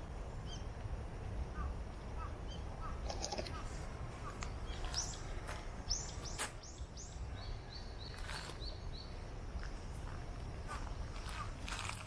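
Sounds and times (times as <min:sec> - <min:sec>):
small birds chirping: 0:00.0 - 0:00.8, 0:01.5 - 0:12.0.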